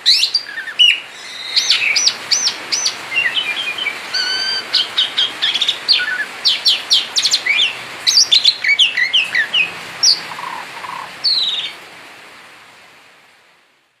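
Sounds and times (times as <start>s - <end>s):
songbird singing: 0.0s - 11.9s
faint hiss: 0.0s - 14.0s.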